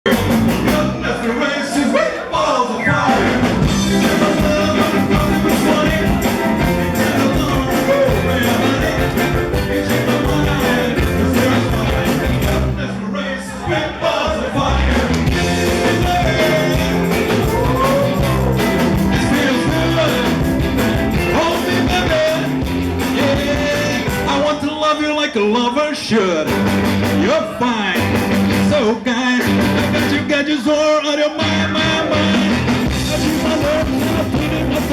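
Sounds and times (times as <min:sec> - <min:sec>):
rockabilly band playing: 0:00.0 - 0:01.6, 0:02.7 - 0:24.8, 0:26.1 - 0:34.9
person singing: 0:00.0 - 0:26.5, 0:27.2 - 0:34.9.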